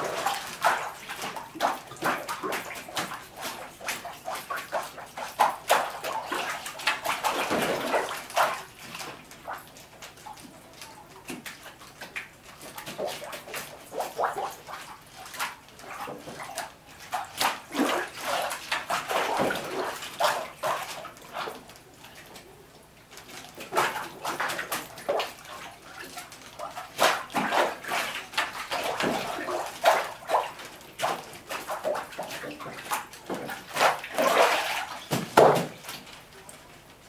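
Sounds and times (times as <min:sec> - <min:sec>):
water and pulp sloshing: 0:00.0 - 0:37.0.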